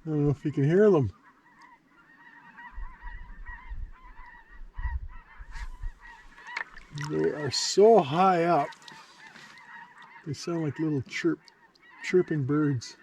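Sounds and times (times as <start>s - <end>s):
geese honking overhead: 0.0s - 13.0s.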